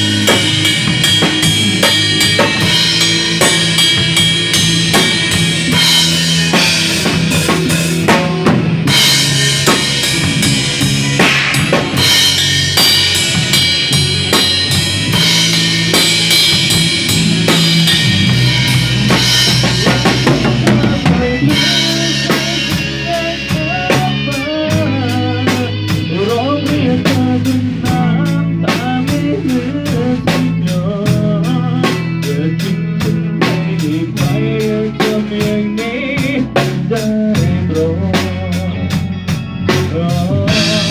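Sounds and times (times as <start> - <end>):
drum kit beat: 0.0 - 40.9
lead melody line: 0.0 - 40.9
sustained bass notes: 0.0 - 40.9.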